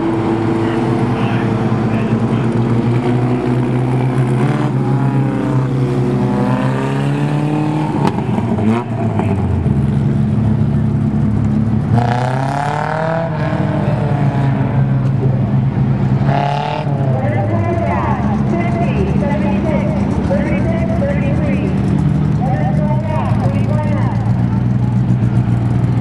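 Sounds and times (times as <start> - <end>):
race car engines running hard: 0.0 - 26.0
race cars passing: 0.0 - 26.0.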